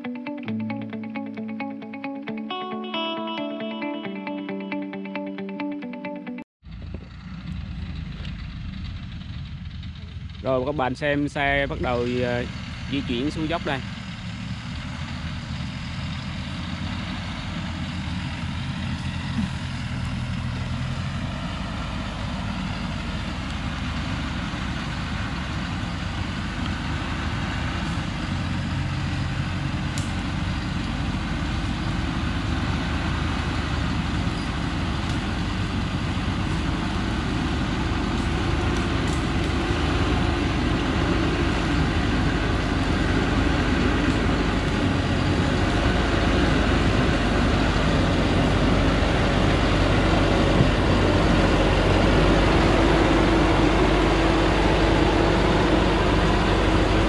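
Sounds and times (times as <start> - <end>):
diesel truck engine running: 6.6 - 57.0.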